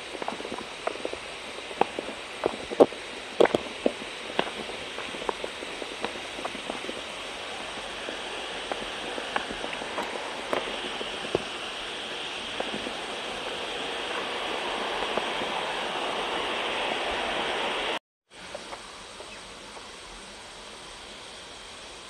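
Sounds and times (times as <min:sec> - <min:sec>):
outdoor hiss: 0:00.0 - 0:22.0.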